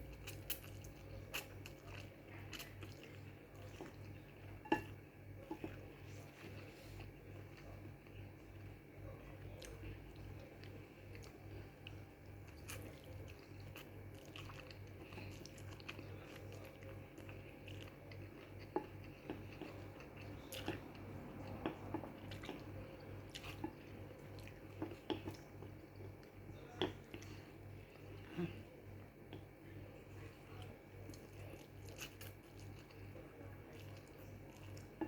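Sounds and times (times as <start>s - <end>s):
faint low hum: 0.0s - 35.0s
person chewing food: 0.0s - 35.0s.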